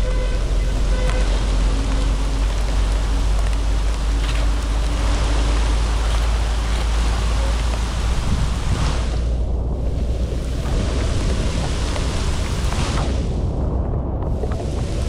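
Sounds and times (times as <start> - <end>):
floodwater rushing: 0.0 - 15.0
heavy low rumble: 0.0 - 15.0.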